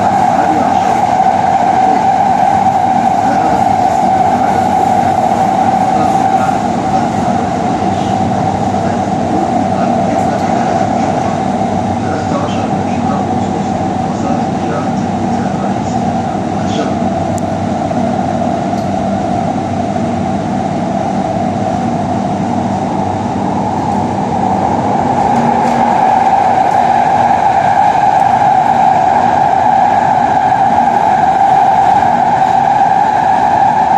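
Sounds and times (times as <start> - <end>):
loud rail noise: 0.0 - 33.9
metro train rumbling in tunnel: 0.0 - 33.9.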